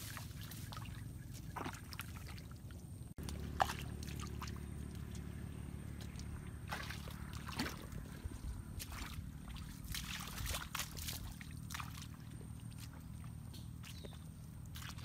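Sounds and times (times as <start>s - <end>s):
footsteps squelching in wet mud: 0.0s - 15.0s
steady low rumble: 2.6s - 15.0s.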